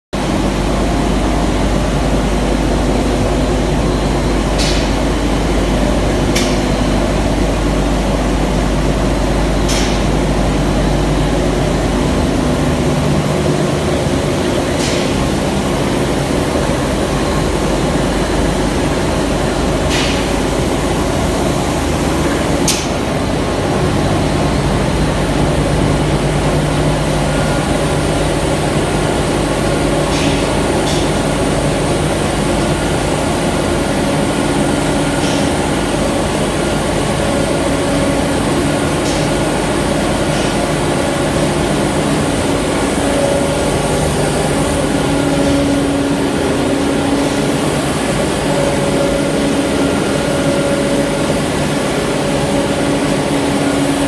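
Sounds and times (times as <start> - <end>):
industrial machinery hum: 0.1 - 54.0.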